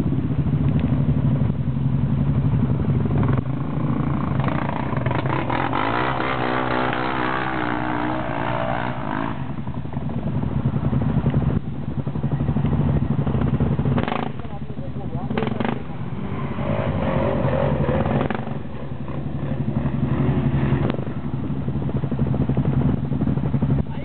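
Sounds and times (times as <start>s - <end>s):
quad bike engine revving: 3.0s - 11.6s, 12.2s - 24.0s.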